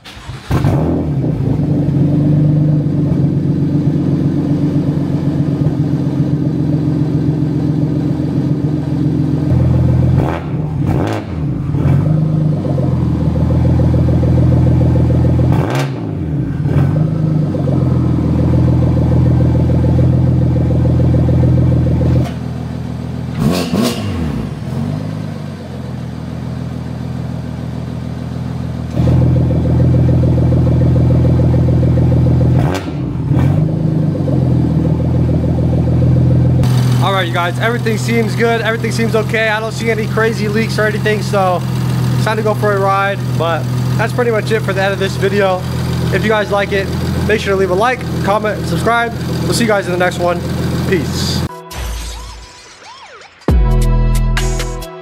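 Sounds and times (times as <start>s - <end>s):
car engine revving and idling: 0.0s - 51.5s.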